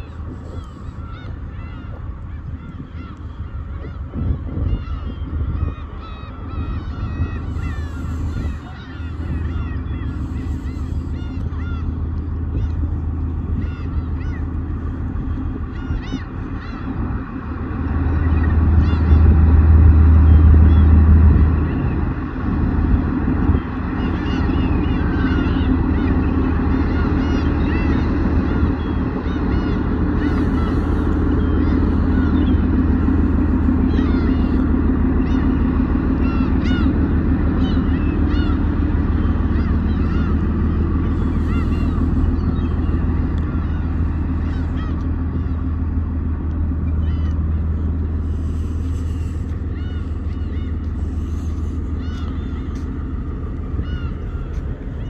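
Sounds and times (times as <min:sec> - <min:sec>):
boat engine drone: 0:00.0 - 0:55.0
gulls crying: 0:00.0 - 0:55.0.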